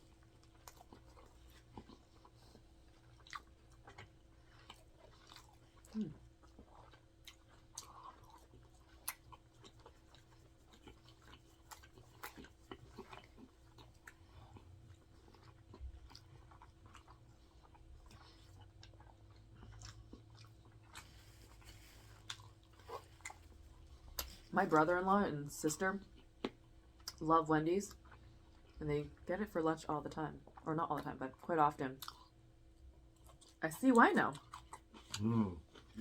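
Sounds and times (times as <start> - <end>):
chewing with mouth clicks: 0.0 - 25.0, 26.0 - 27.2, 27.9 - 29.2, 30.4 - 36.0
faint steady hum: 0.0 - 36.0.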